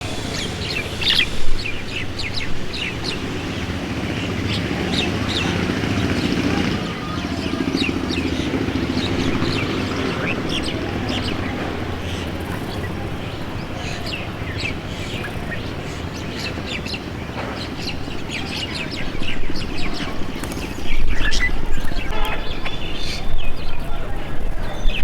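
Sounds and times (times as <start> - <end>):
steady low rumble: 0.0 - 22.8
small birds chirping: 0.0 - 25.0.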